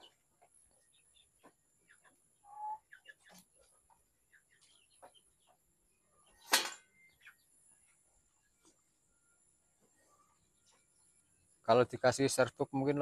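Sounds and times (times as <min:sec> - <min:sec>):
chickens chirping: 0:00.0 - 0:13.0.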